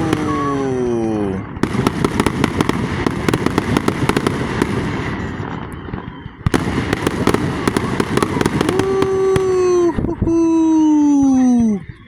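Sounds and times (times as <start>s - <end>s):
fireworks crackling: 0.0s - 11.2s.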